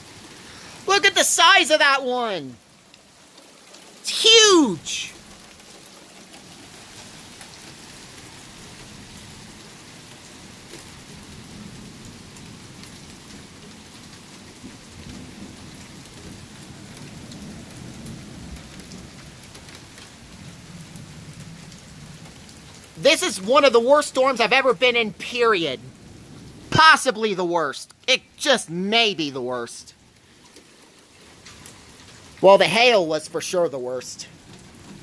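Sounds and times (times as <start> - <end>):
rain falling on pavement: 0.0 - 35.0.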